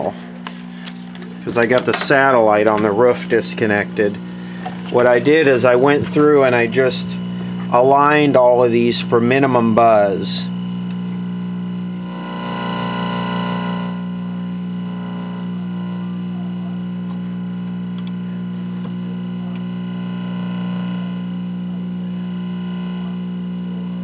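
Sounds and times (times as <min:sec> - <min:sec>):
television speaker buzz: 0:00.0 - 0:24.0.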